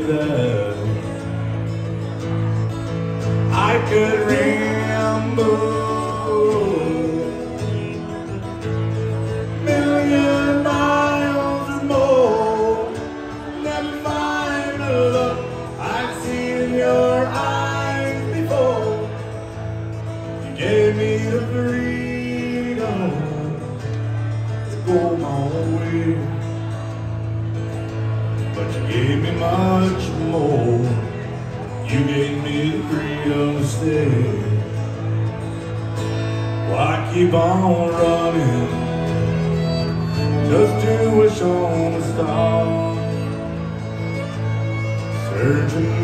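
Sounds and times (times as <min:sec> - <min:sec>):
fiddle melody: 0:00.0 - 0:46.0
strummed acoustic guitar: 0:00.0 - 0:46.0.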